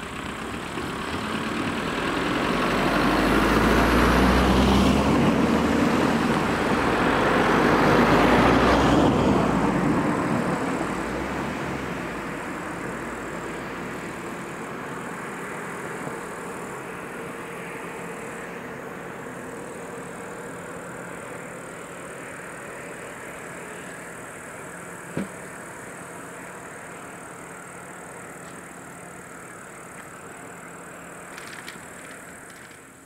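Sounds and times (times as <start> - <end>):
cars driving past: 0.0 - 32.7.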